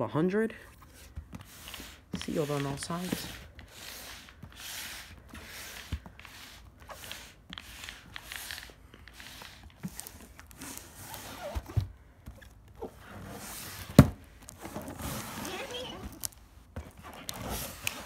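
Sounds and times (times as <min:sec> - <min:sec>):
plastic wrap rustling: 0:00.8 - 0:18.0.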